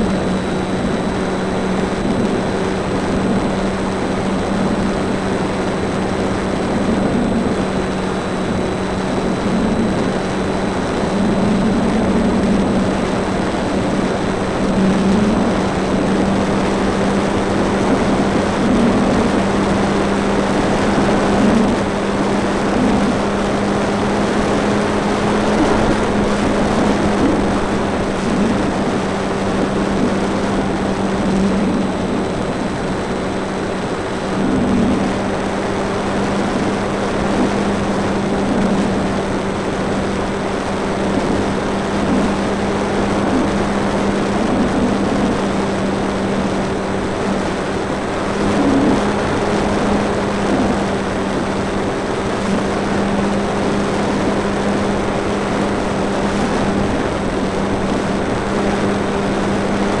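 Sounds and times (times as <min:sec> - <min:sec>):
electric motor and propeller hum: 0:00.0 - 1:00.0
rushing air noise: 0:00.0 - 1:00.0.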